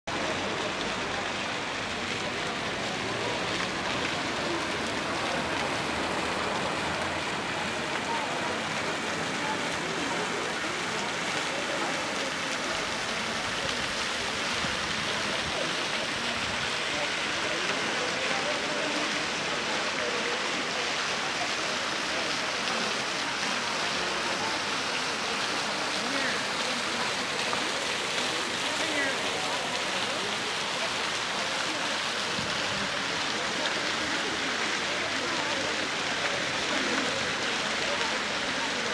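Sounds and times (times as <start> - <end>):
fountain water rushing and splashing: 0.1 - 38.9.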